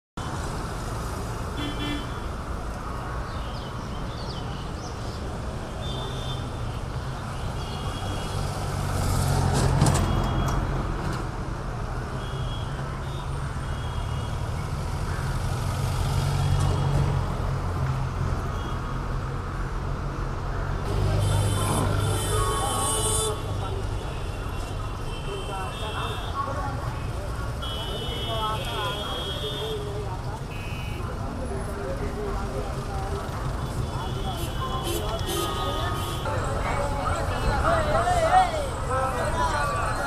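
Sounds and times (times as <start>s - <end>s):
road traffic rumble: 0.2s - 40.0s.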